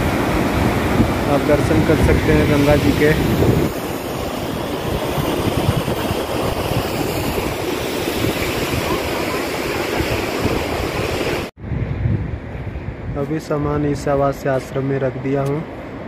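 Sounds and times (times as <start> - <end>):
wind gusting on microphone: 0.0 - 16.0.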